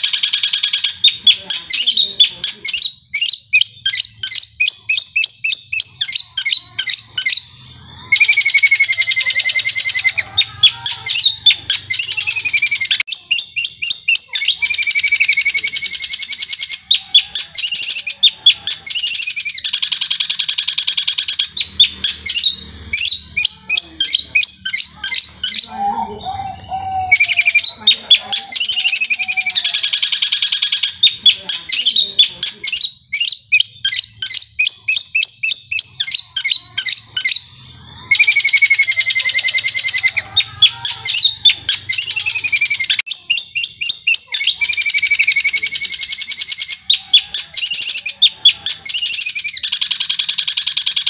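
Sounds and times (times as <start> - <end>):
shrike singing rapid trills: 0.0 - 51.0.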